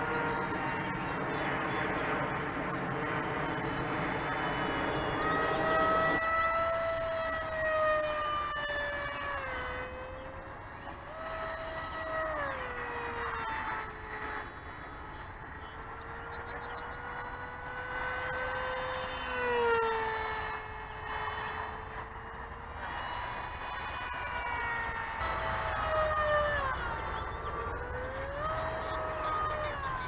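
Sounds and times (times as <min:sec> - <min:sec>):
model airplane motor whining: 0:00.0 - 0:30.0.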